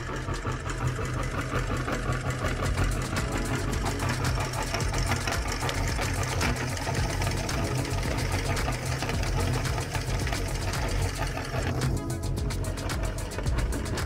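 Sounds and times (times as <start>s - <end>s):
auger rattling: 0.0s - 14.0s
meat grinder motor humming: 0.0s - 14.0s.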